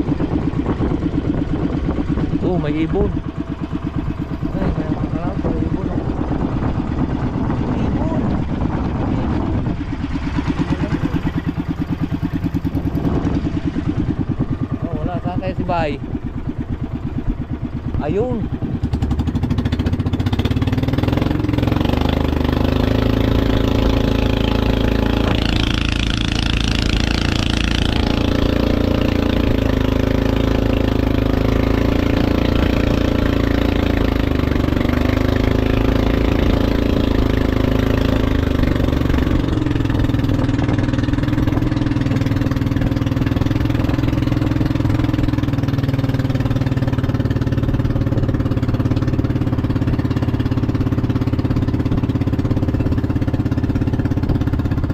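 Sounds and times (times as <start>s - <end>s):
small boat engine running: 0.0s - 54.9s.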